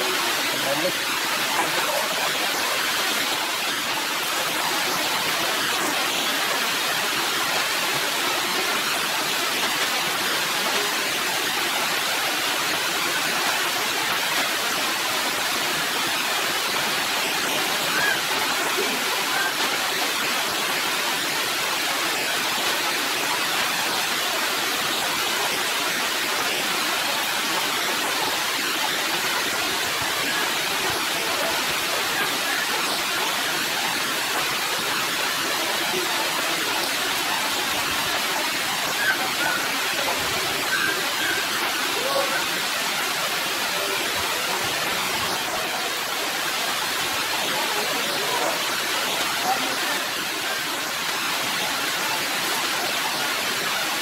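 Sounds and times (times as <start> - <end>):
heavy rain on leaves and concrete: 0.0 - 54.0.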